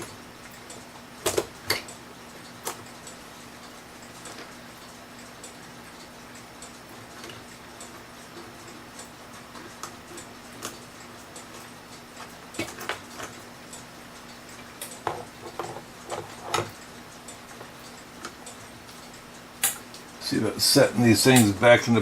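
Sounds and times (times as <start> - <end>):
clock ticking: 0.0 - 22.0.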